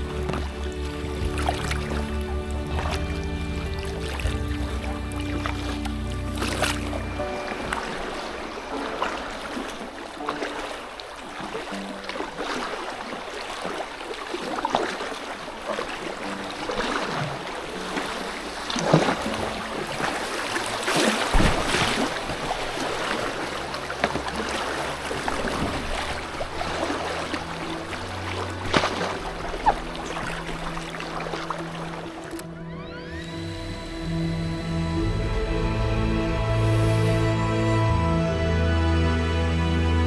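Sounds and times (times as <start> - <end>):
paddle stroke splashes: 0.0 - 37.8
water splashing around boat: 0.0 - 38.1.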